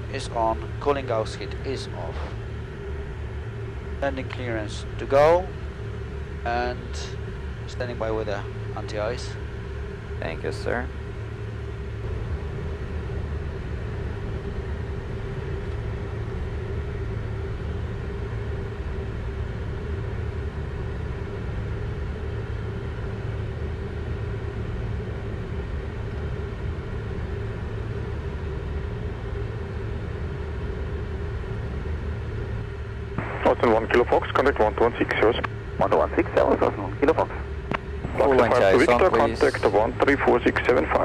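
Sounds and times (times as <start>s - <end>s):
airflow and jet engine rumble: 0.0s - 41.0s
steady hum: 0.0s - 41.0s.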